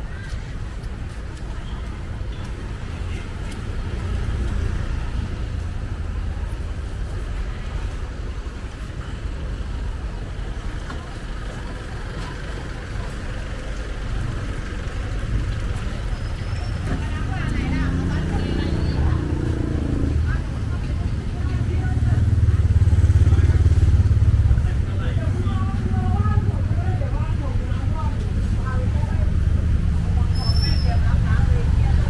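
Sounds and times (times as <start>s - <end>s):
faint voices: 0.0s - 32.0s
traffic rumble: 0.0s - 32.0s.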